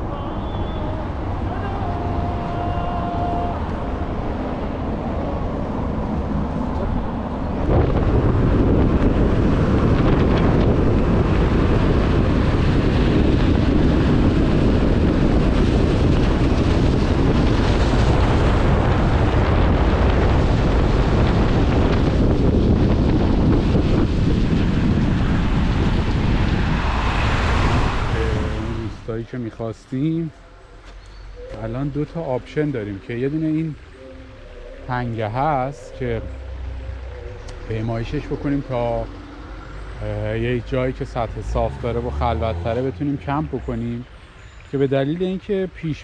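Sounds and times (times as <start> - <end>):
car driving on wet road: 0.0 - 45.8.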